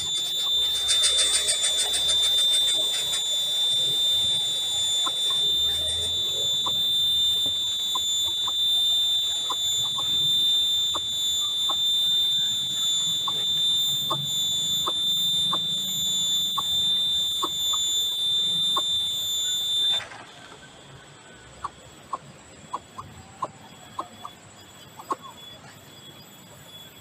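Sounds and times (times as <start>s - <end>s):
high-pitched drone: 0.0s - 27.0s.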